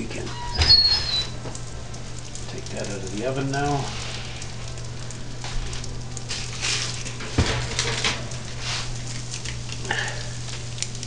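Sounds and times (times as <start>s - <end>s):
roasted squash crackling and sizzling: 0.0s - 11.0s
steady low hum: 0.0s - 11.0s.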